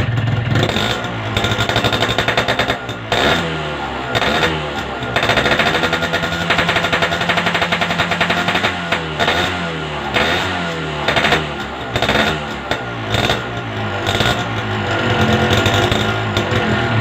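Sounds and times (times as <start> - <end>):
exhaust cracks: 0.0 - 17.0
motorcycle engine revving: 0.0 - 17.0.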